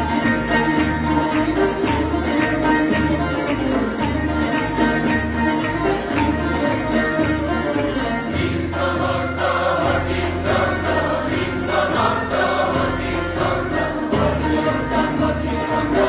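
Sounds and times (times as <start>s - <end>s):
choir singing folk music: 0.0s - 16.0s.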